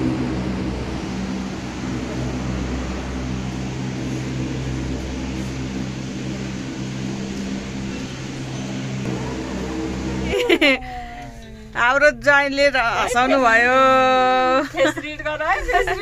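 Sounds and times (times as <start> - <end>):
cable car mechanical hum: 0.0 - 16.0.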